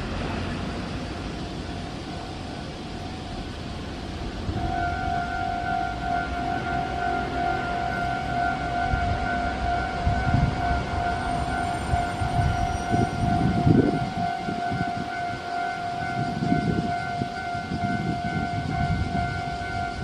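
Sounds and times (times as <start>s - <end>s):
pulsing electronic warning tone: 0.9s - 20.0s.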